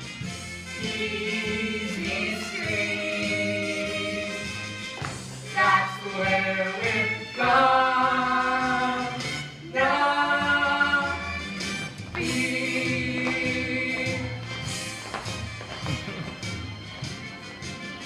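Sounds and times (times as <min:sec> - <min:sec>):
steady musical accompaniment: 0:00.0 - 0:18.0.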